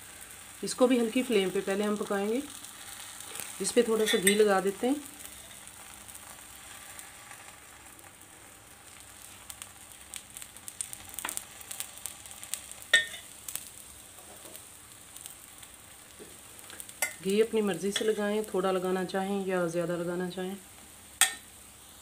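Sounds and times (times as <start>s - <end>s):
flatbread sizzling in fat: 0.0s - 22.0s.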